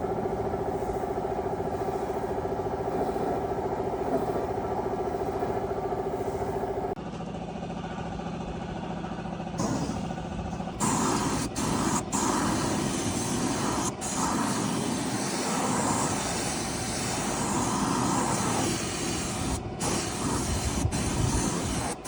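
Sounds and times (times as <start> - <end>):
machine motor running: 0.0 - 22.0.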